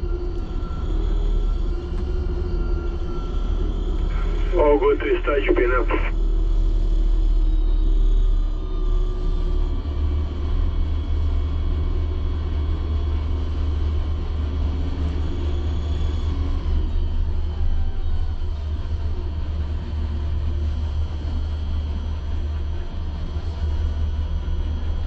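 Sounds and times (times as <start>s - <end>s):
tower crane rumbling with whine: 0.0s - 25.0s.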